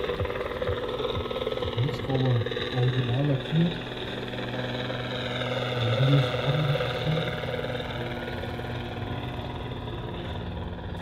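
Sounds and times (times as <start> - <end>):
model helicopter motor drone: 0.0 - 11.0
rotor blades chopping: 0.0 - 11.0.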